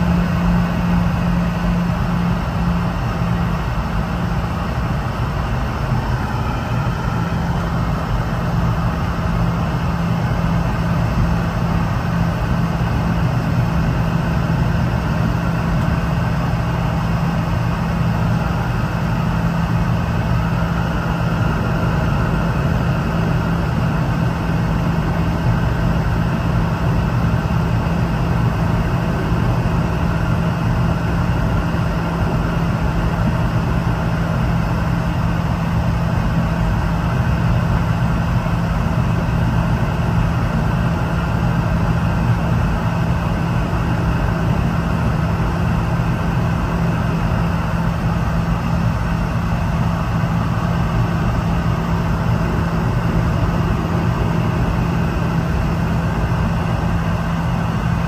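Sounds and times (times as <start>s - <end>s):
aircraft cabin air rush: 0.0s - 58.0s
constant low hum: 0.0s - 58.0s.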